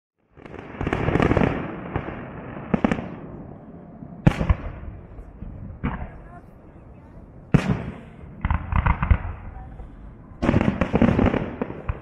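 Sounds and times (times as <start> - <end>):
fireworks bangs: 0.2 - 12.0
rumbling echo: 0.5 - 12.0.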